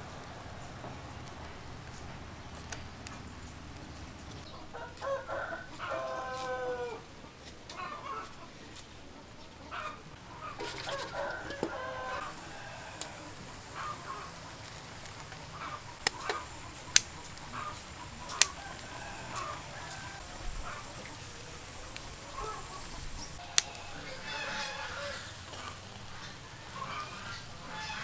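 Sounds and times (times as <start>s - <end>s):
chickens clucking: 3.0s - 28.0s.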